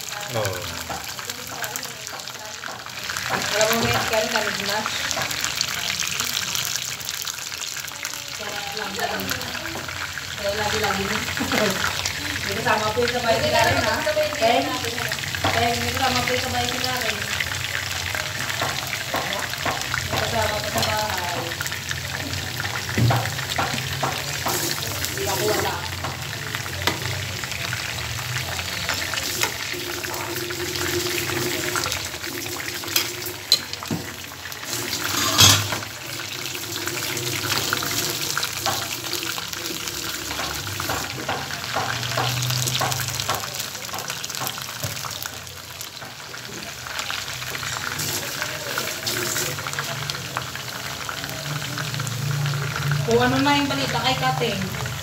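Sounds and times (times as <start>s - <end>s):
chicken frying in oil: 0.0s - 55.0s.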